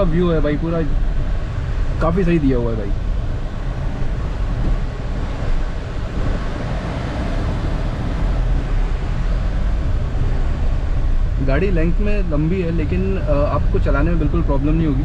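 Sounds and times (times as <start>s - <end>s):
low engine drone: 0.0s - 15.0s
tyre and road rumble: 0.0s - 15.0s.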